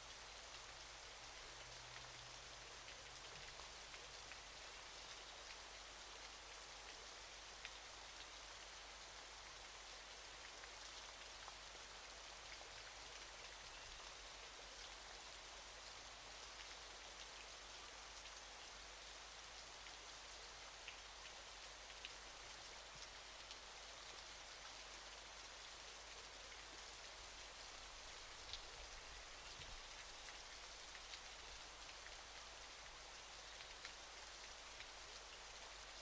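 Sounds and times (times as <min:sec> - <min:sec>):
faint waterfall hiss: 0:00.0 - 0:36.0.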